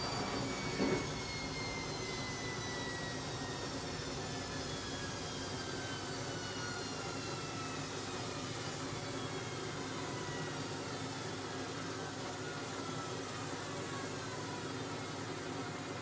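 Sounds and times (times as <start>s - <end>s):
washing machine spinning down: 0.0s - 16.0s.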